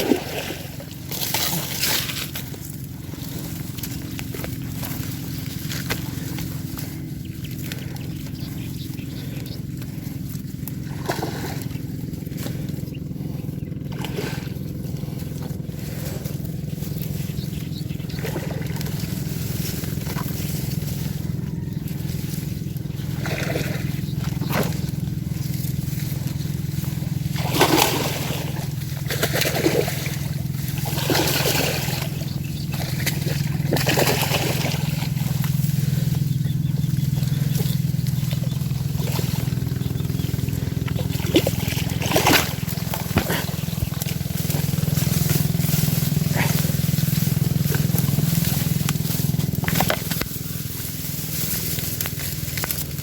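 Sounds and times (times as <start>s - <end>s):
low hum: 0.0s - 53.0s
water sloshing and gurgling: 0.0s - 53.0s.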